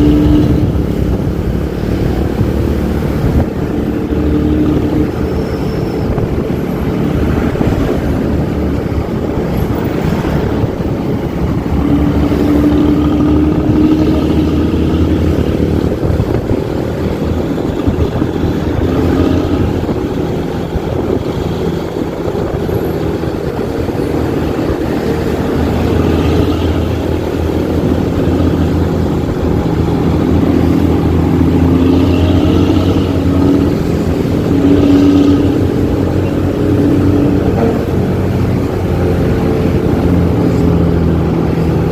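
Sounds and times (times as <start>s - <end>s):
diesel bus engine revving: 0.0s - 41.9s.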